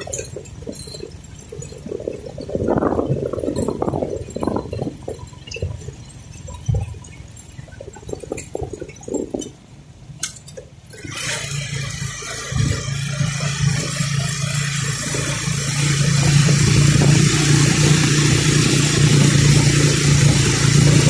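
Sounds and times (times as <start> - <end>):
engine and road noise drone: 0.0 - 21.0
motorcycle rumbling and rattling: 0.0 - 21.0.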